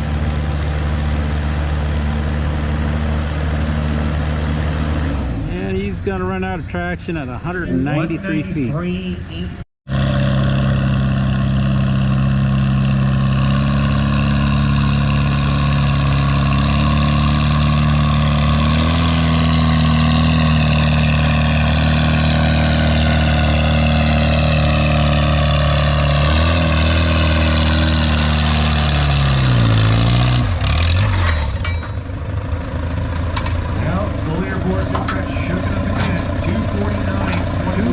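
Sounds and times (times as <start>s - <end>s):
tractor engine under heavy load: 0.0s - 7.2s, 7.8s - 37.9s.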